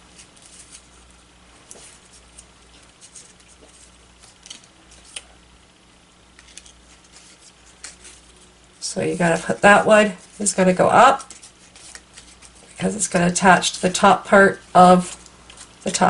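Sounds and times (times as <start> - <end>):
cardstock rustling and ticking: 0.0 - 5.4, 6.3 - 14.1
low room hum: 0.0 - 16.0.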